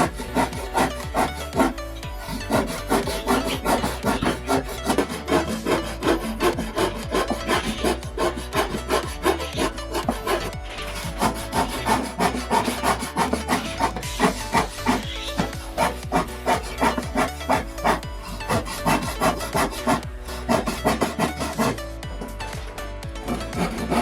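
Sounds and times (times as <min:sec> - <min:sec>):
hand saw cutting wood: 0:00.0 - 0:24.0.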